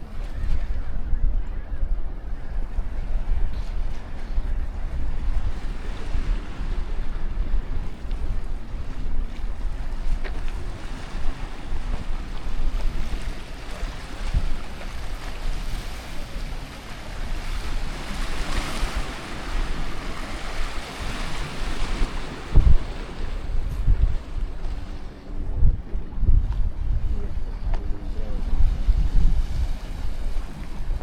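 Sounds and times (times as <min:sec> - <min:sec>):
sea waves washing ashore: 0:00.0 - 0:31.0
wind rumble on microphone: 0:00.0 - 0:31.0.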